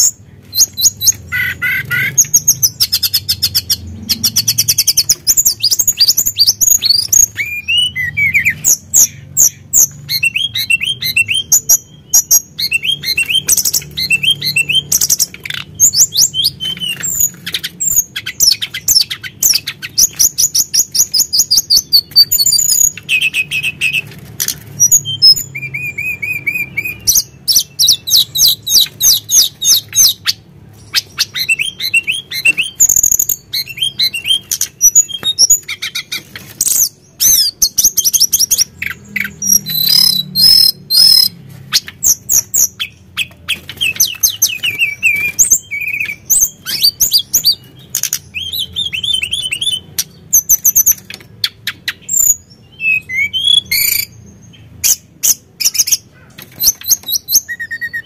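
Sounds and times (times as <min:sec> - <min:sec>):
bird singing whistles and trills: 0:00.0 - 0:24.1, 0:24.8 - 0:58.0.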